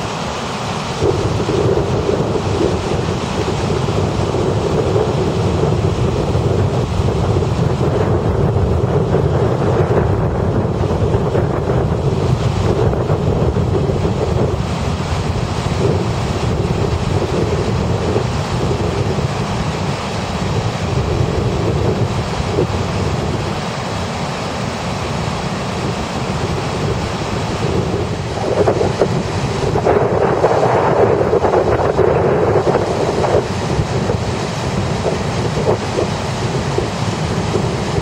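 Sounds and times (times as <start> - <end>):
river water rushing over rocks: 0.0 - 38.0
wind buffeting microphone: 0.0 - 38.0.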